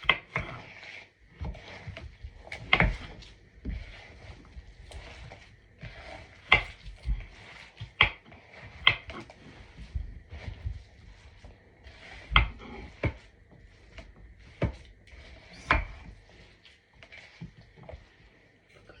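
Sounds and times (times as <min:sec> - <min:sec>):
light rubbing and shuffling: 0:00.2 - 0:19.0.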